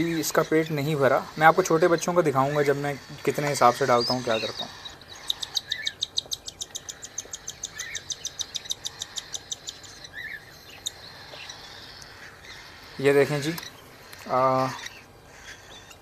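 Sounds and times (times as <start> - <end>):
bird chick begging chirps: 0.0 - 16.0
soft bird calls: 0.0 - 16.0.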